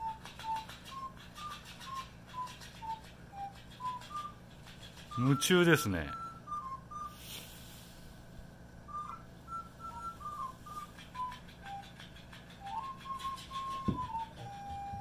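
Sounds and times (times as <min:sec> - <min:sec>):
person whistling softly: 0:00.0 - 0:07.5, 0:08.8 - 0:15.0.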